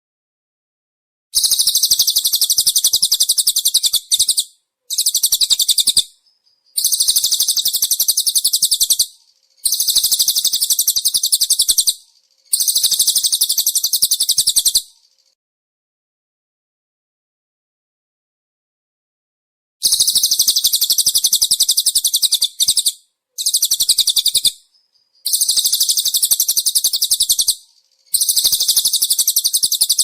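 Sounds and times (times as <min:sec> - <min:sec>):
songbird high-pitched trill: 0:01.4 - 0:15.4, 0:19.8 - 0:30.0.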